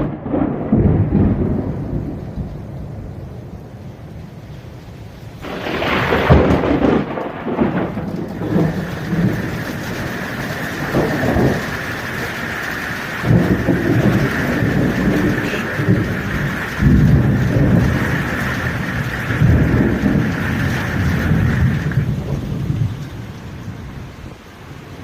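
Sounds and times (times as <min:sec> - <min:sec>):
steady rain: 0:00.0 - 0:25.0
thunder rumbling: 0:00.0 - 0:25.0.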